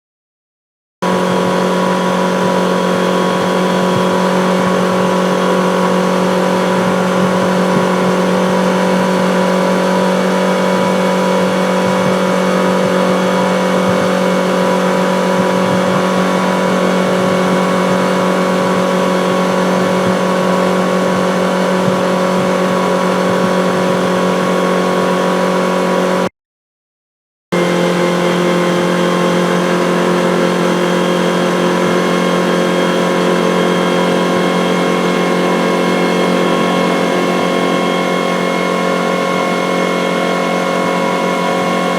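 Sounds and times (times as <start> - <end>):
outboard motor at high speed: 1.0 - 26.3, 27.5 - 41.9.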